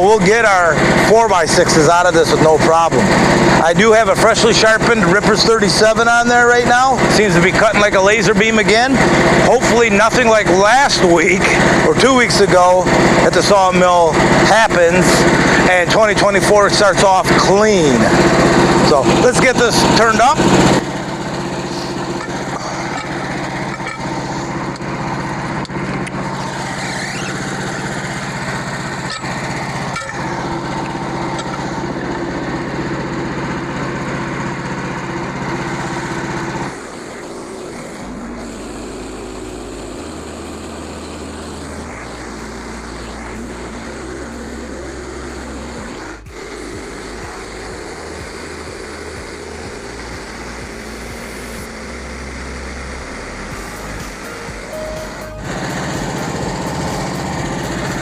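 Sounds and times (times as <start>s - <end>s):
low hum shifting in steps: 0.0s - 58.0s
small gas engine running: 0.0s - 58.0s.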